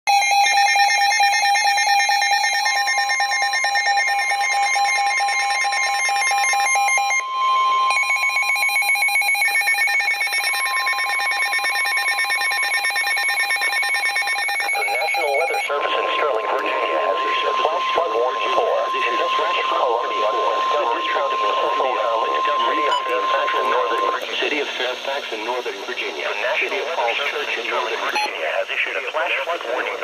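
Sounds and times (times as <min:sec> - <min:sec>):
steady warning alarm tone: 0:00.1 - 0:28.4
warbling data tones: 0:02.4 - 0:29.0.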